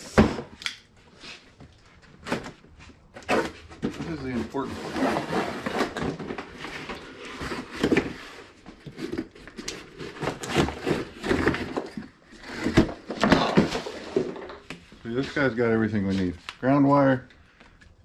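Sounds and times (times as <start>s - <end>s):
cardboard and plastic rustling: 1.3s - 17.1s.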